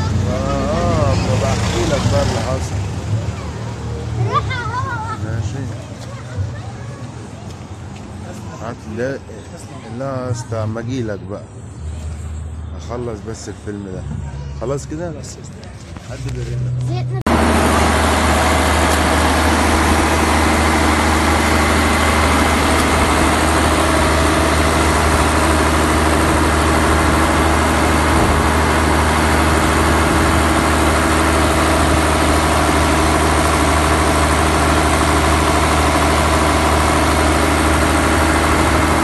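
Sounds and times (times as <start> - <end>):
diesel generator drone: 0.0 - 9.6, 10.8 - 39.0.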